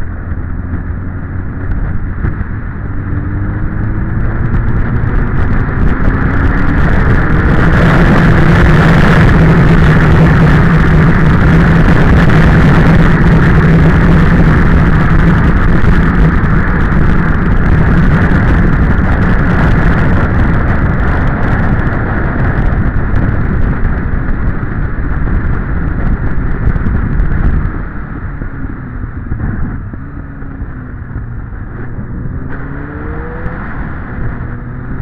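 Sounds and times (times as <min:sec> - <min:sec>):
motorcycle engine: 0:00.0 - 0:35.0
wind rush over microphone: 0:00.0 - 0:35.0.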